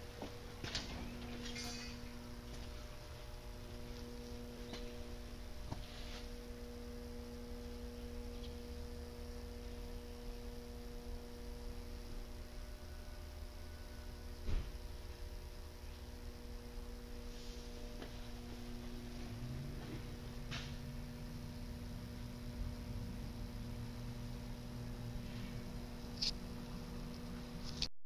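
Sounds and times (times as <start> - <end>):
electrical hum: 0.0 - 27.9.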